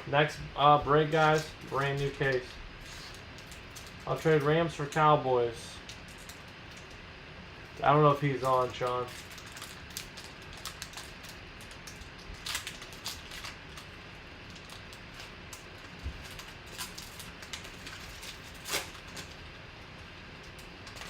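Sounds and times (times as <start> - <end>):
packaging crinkles: 1.1 - 5.0, 5.8 - 7.0, 8.4 - 19.5, 20.3 - 21.0.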